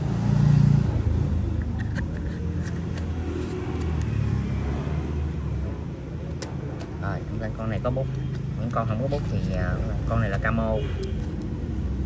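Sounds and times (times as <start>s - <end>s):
rumble of motor traffic: 0.0s - 12.0s.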